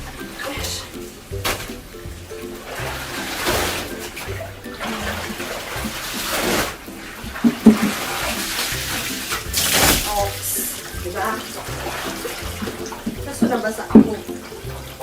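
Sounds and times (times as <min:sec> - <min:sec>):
background music: 0:00.0 - 0:15.0
water sloshing in bathtub: 0:00.0 - 0:15.0.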